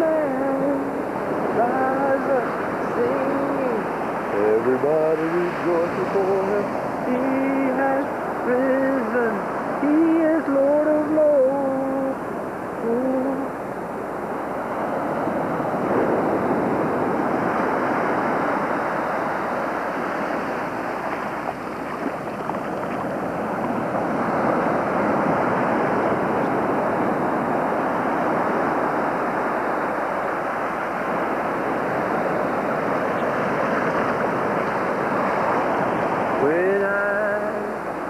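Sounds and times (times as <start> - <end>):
ocean surf breaking: 0.0 - 38.0.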